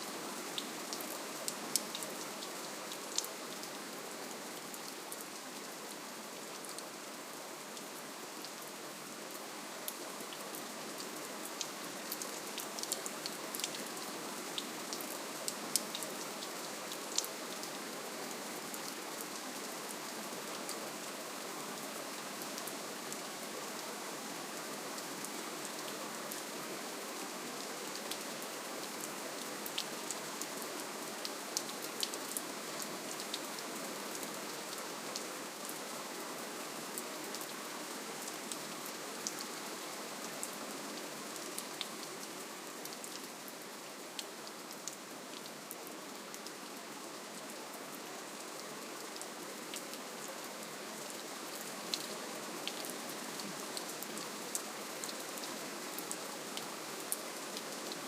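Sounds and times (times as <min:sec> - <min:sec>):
gentle rain hiss: 0:00.0 - 0:58.0.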